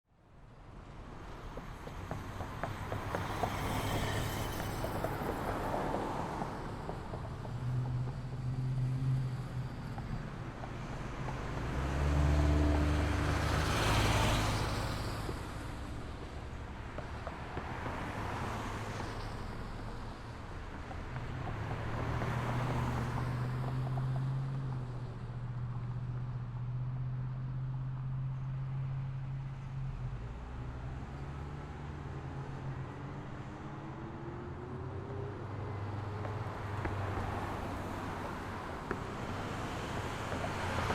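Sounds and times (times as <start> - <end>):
road traffic rumble: 0.3 - 40.9
cars passing: 0.7 - 40.9.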